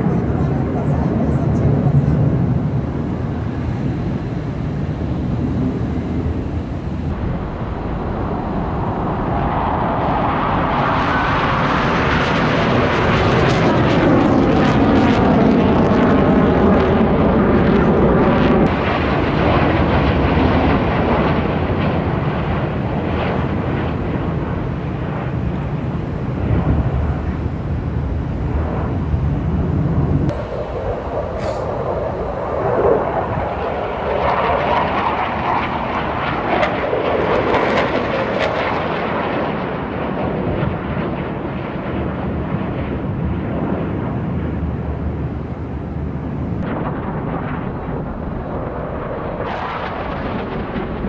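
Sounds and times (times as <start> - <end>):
airplane engine roar: 0.0 - 51.0
airplane whoosh passing: 0.0 - 51.0.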